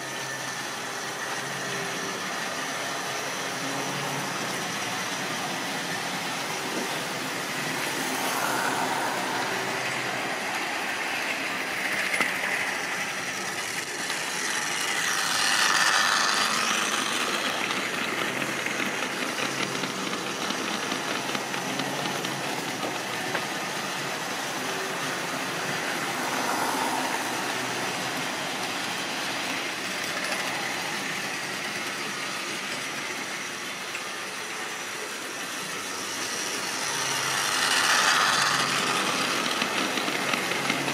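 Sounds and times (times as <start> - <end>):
model trains whirring and rattling: 0.0 - 40.9.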